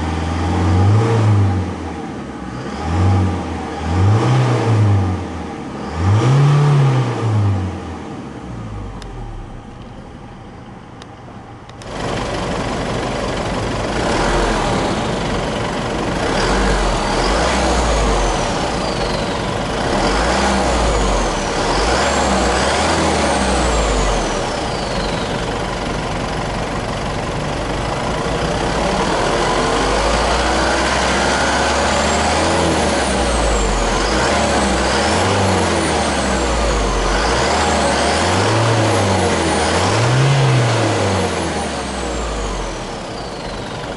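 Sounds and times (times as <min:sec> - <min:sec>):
diesel engine revving: 0:00.0 - 0:43.9.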